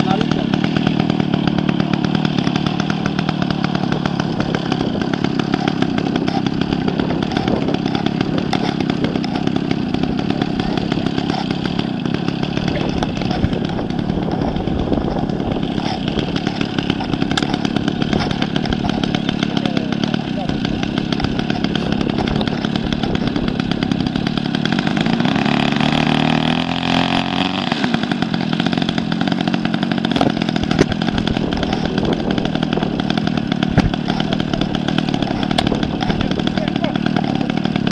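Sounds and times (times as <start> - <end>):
model airplane petrol engine running: 0.0 - 37.9.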